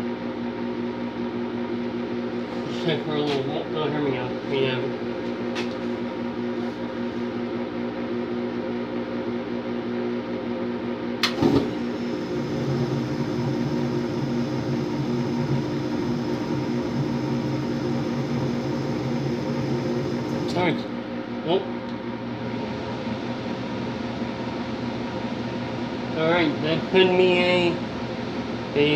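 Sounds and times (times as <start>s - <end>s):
furnace inducer motor humming: 0.0s - 28.9s
low burner rumble: 0.1s - 28.9s.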